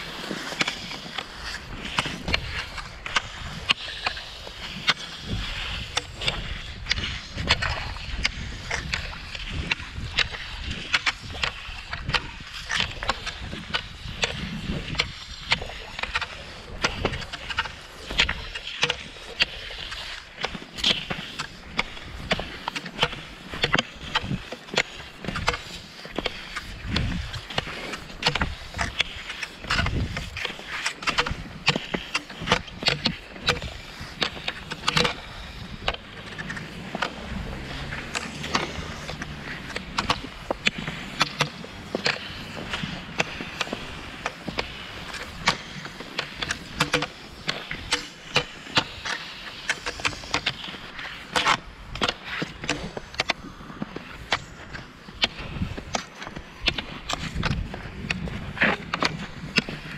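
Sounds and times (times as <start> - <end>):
ski pole tips clicking: 0.0 - 59.9
skis gliding over snow: 0.0 - 59.9.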